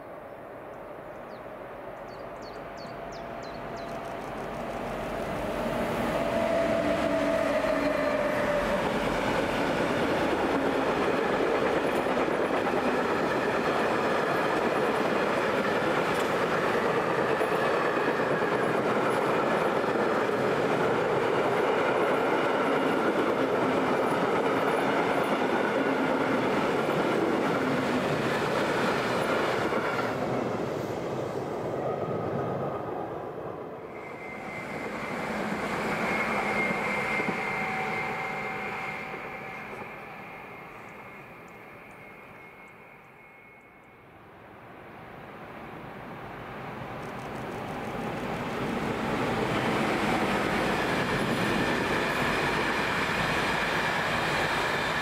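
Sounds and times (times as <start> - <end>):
electric locomotive whine: 0.0 - 55.0
electric train whine: 0.0 - 55.0
freight train wheels rolling: 2.8 - 31.1, 33.9 - 43.2, 46.9 - 55.0.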